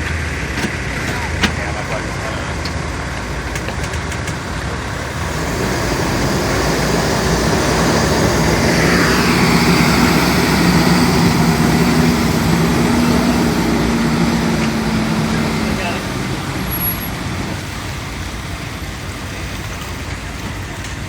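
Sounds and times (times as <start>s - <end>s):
motor engine humming: 0.0s - 21.0s
falling whine: 1.1s - 20.6s.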